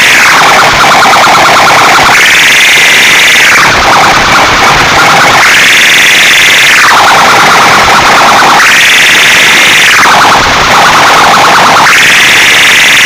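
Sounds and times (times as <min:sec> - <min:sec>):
electronic siren wail: 0:00.0 - 0:13.0.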